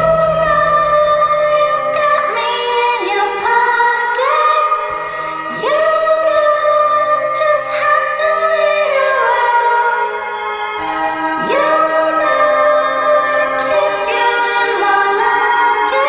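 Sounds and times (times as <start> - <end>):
song with long sliding sung notes: 0.0 - 16.0.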